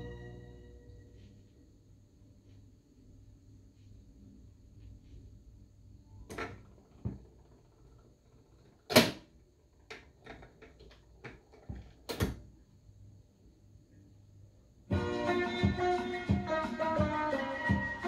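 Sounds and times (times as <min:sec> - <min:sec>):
faint hum: 0:00.0 - 0:16.2.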